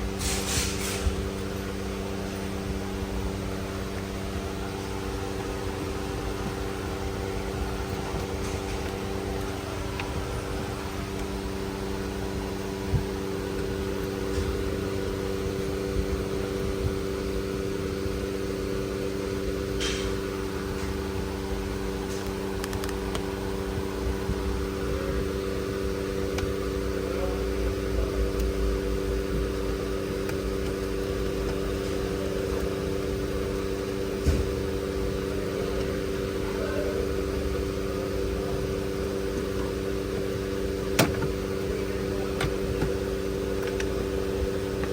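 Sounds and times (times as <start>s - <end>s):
mechanical hum: 0.0s - 44.9s.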